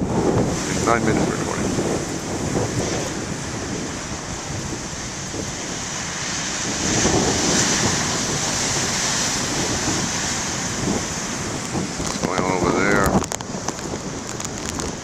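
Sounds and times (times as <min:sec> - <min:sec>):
ocean surf crashing on shore: 0:00.0 - 0:15.0
wind buffeting microphone: 0:00.0 - 0:15.0.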